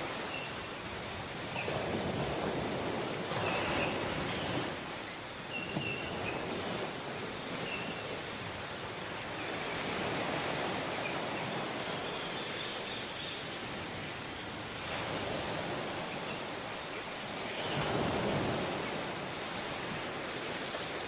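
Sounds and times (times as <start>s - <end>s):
waves washing onto beach: 0.0s - 21.0s.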